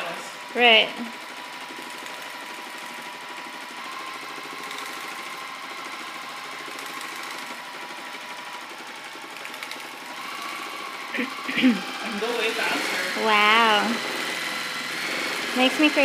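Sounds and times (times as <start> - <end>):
sewing machine running: 0.0 - 16.0.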